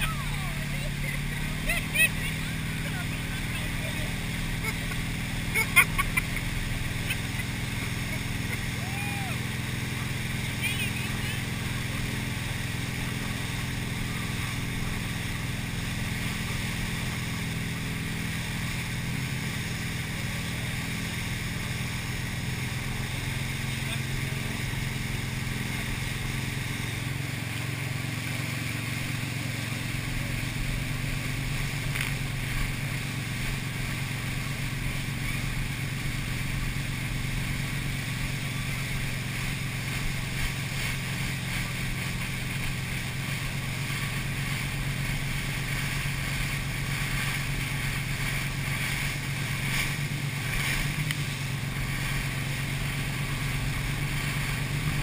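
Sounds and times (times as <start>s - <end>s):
churning wake rushing: 0.0s - 55.0s
motorboat engine running: 0.0s - 55.0s.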